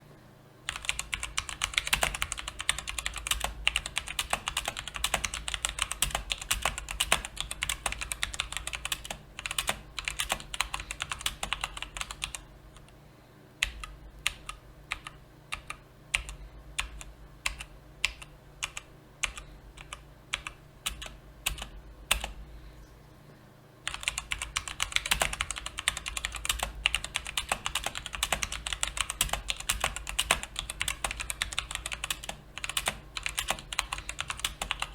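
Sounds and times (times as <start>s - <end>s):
typing on mechanical keyboard: 0.7s - 12.4s, 13.6s - 22.4s, 23.9s - 34.9s.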